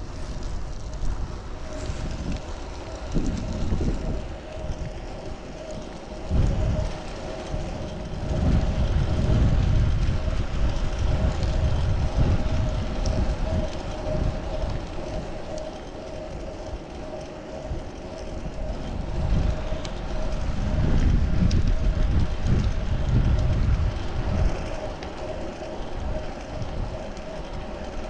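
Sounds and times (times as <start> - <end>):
faint steady hum: 0.0 - 28.0
wind buffeting microphone: 0.0 - 28.0.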